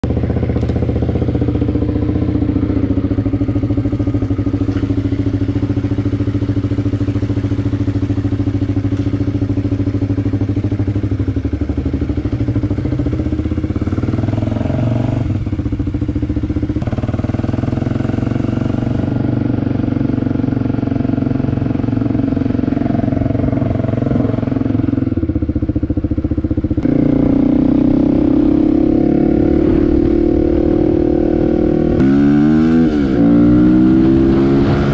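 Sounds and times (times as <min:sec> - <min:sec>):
motorcycle engine running and revving: 0:00.0 - 0:34.9.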